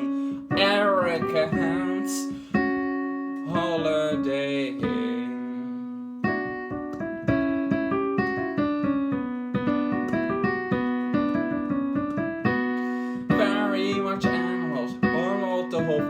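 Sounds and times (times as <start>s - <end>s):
piano playing: 0.0s - 16.0s.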